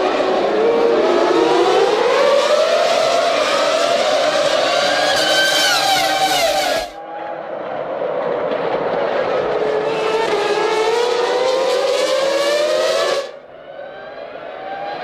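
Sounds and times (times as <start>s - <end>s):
racing car engines at high revs: 0.0s - 7.0s, 7.7s - 15.0s.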